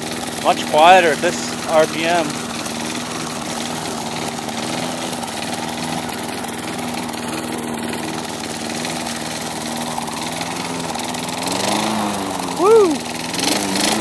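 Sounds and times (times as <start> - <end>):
push mower engine running: 0.0 - 14.0.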